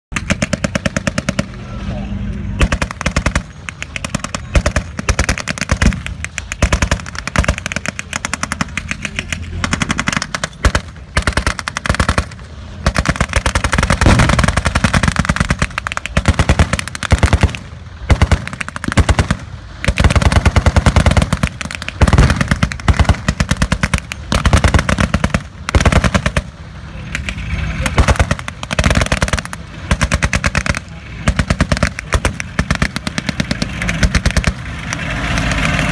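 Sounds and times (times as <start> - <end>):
machine-gun fire bursts: 0.1 - 1.6, 2.6 - 26.6, 27.8 - 35.9
tank engines humming: 0.1 - 35.9.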